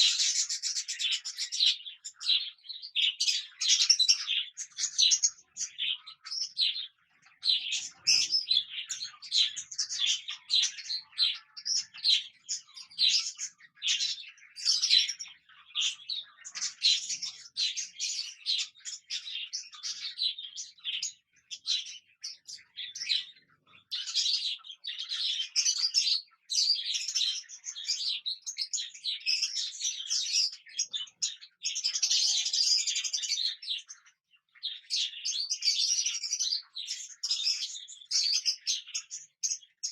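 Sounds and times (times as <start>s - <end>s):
cockatiels chirping: 0.0s - 39.9s.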